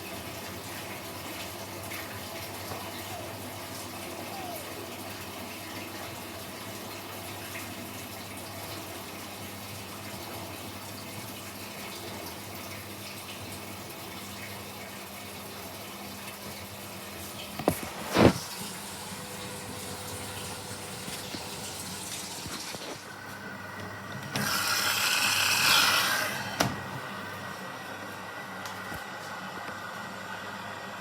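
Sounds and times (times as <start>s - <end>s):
gush of water: 0.0s - 23.1s, 24.4s - 26.6s
water rushing into washing machine: 0.0s - 23.3s, 23.9s - 27.5s.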